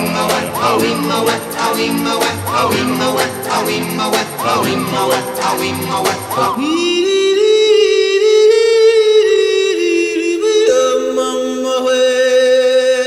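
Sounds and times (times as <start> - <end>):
person singing long notes: 0.0 - 13.0.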